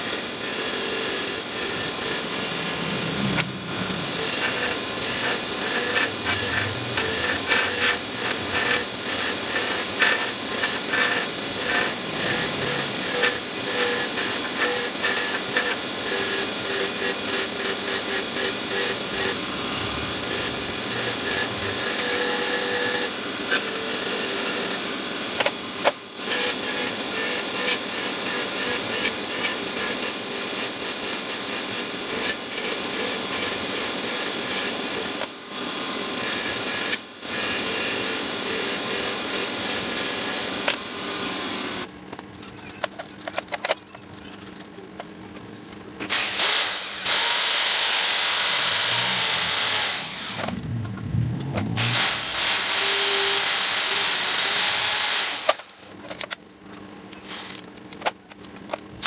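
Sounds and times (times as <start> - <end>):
power tool running: 0.0 - 41.9, 46.1 - 55.9.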